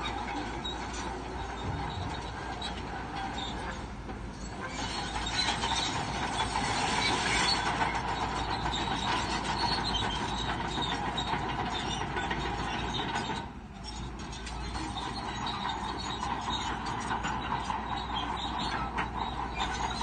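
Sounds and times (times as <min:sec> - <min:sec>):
diesel engine under load: 0:00.0 - 0:20.0
steel tracks clanking: 0:00.0 - 0:20.0.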